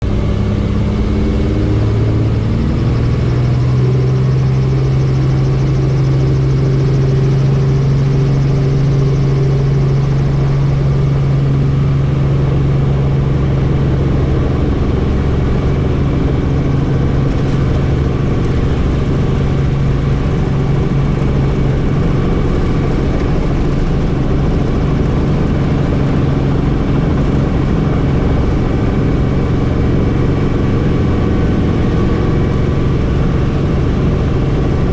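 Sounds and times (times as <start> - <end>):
helicopter engine and rotor hum: 0.0 - 34.9
noisy rush: 0.0 - 34.9.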